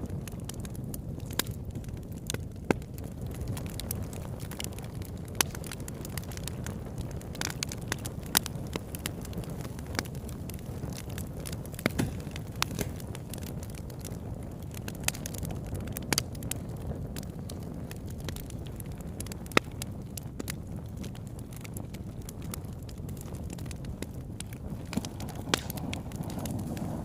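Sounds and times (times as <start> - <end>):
low rumble of flames: 0.0 - 27.0
wood crackling and popping: 0.0 - 27.0.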